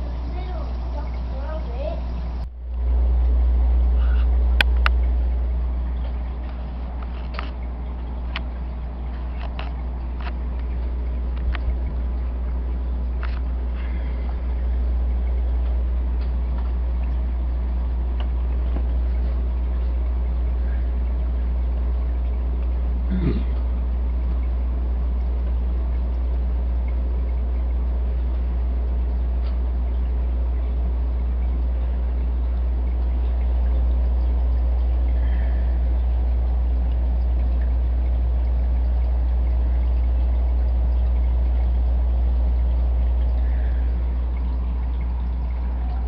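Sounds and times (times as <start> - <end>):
aquarium filter humming: 0.0 - 46.0
water trickling: 0.0 - 46.0.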